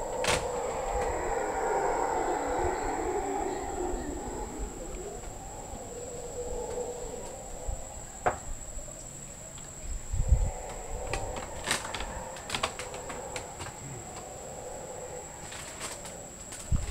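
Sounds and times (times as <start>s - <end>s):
howler monkeys howling: 0.0s - 16.9s.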